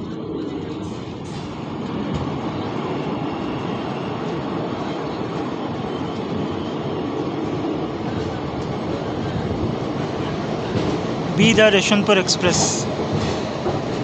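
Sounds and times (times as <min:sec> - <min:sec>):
electric locomotive passing: 0:00.0 - 0:14.0
train coaches rumbling past: 0:00.0 - 0:14.0.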